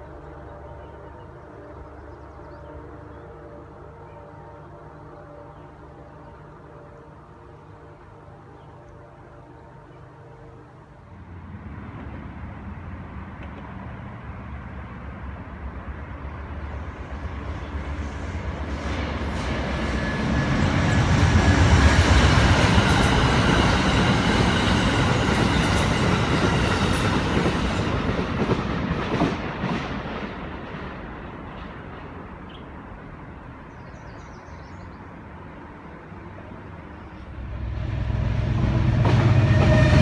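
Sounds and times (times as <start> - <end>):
passenger train passing: 0.0 - 40.0.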